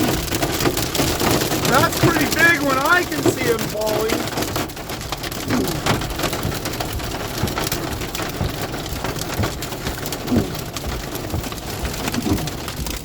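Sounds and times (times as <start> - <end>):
hail and rain on car roof: 0.0 - 13.0.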